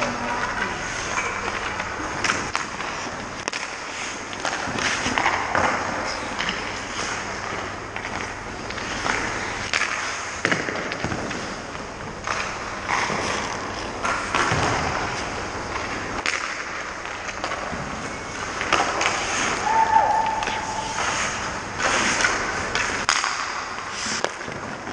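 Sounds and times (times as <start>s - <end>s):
skate blades scraping ice: 0.3s - 11.6s, 12.2s - 24.9s.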